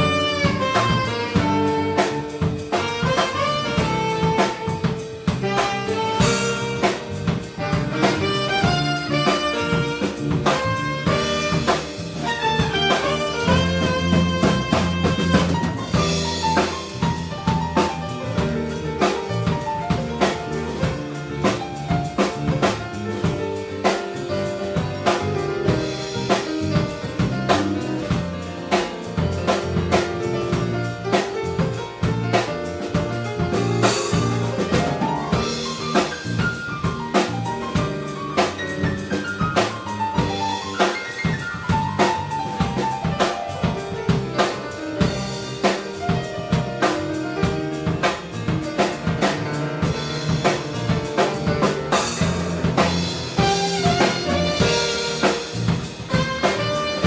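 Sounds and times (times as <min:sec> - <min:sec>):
drum kit beat: 0:00.0 - 0:57.0
grand piano lines: 0:00.0 - 0:57.0.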